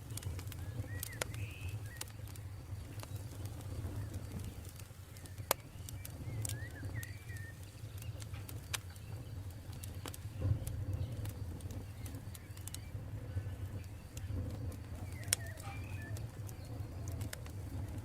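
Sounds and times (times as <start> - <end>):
campfire crackling and popping: 0.0 - 18.0
low steady rumble: 0.0 - 18.0
bird chirps: 0.6 - 14.2, 14.9 - 18.0.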